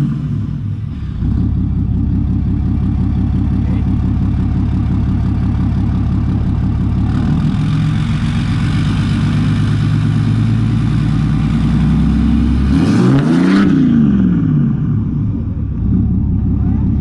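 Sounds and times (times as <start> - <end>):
diesel truck engine idling and revving: 0.0 - 17.0.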